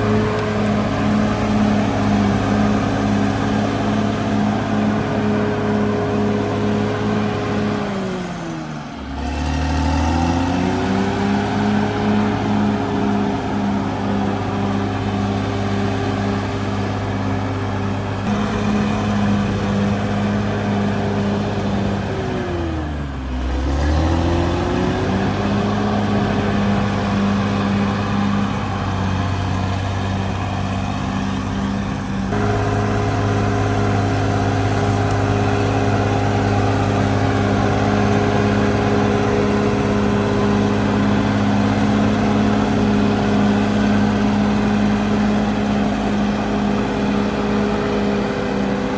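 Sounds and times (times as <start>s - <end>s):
bulldozer diesel engine revving: 0.0s - 48.9s.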